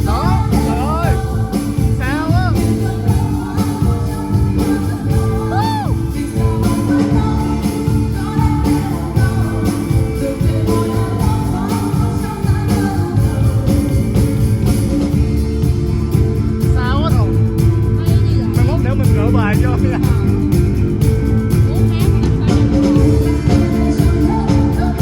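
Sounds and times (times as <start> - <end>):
jingling bell-like percussion: 0.0 - 25.0
pop song with steady beat: 0.0 - 25.0.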